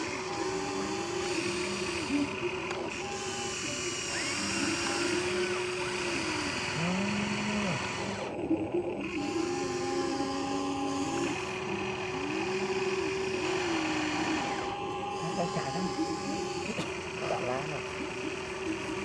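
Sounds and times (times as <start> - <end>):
toy excavator motors whirring: 0.0 - 19.0.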